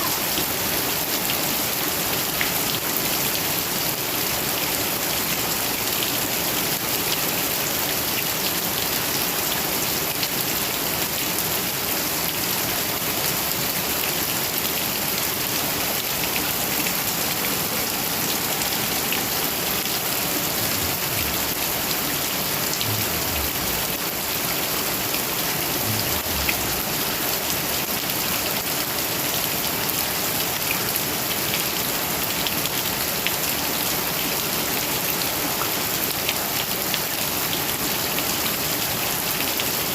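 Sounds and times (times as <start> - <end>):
heavy rain falling: 0.0 - 39.9
rain drops ticking: 0.0 - 39.9.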